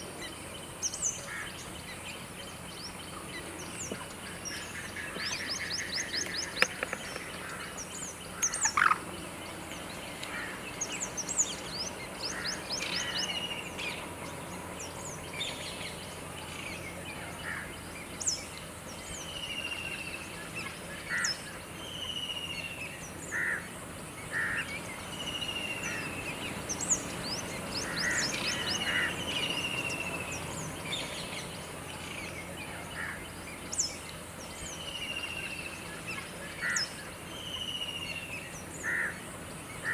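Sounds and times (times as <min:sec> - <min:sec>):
birds calling: 0:00.0 - 0:39.9
steady background hiss: 0:00.0 - 0:39.9.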